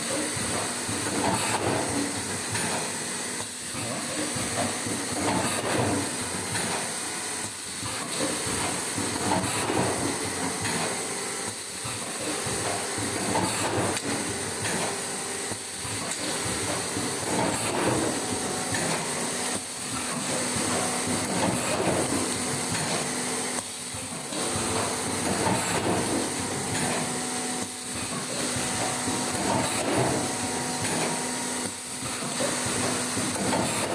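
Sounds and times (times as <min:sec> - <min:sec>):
moulding machine hissing and clattering: 0:00.0 - 0:33.9.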